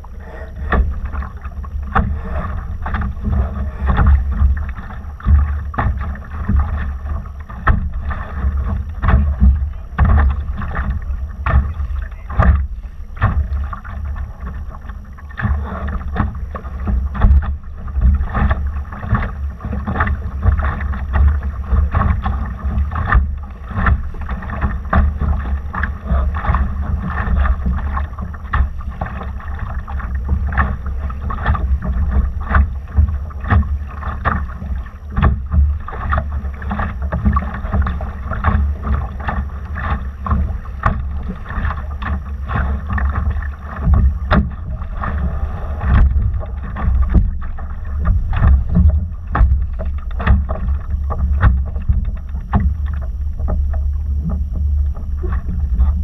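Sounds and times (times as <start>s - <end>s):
water splashing against hull: 0.0s - 56.0s
wind on microphone: 0.0s - 56.0s.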